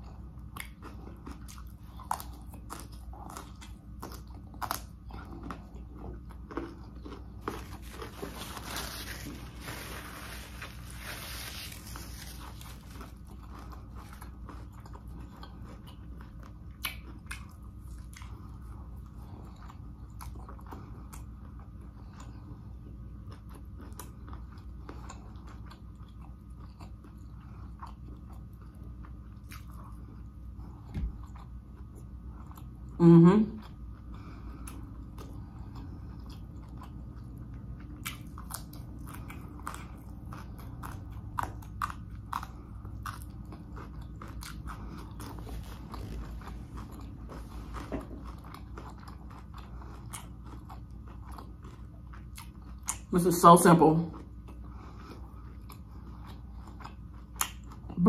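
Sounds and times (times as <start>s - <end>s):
crunchy chewing: 0.0s - 32.9s, 33.6s - 53.1s, 54.1s - 58.0s.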